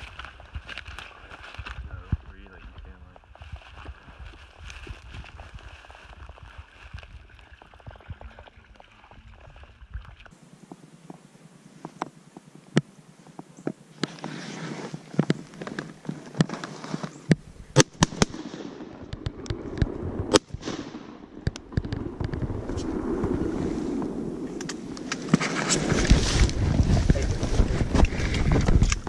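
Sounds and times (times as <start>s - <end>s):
vegetation rustling: 0.0s - 8.5s, 9.4s - 17.7s, 22.1s - 29.0s.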